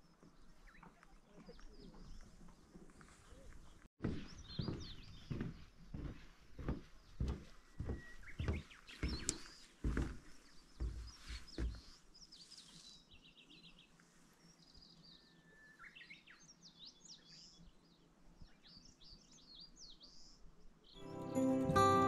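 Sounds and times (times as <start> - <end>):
songbirds singing and calling: 0.0 - 21.5.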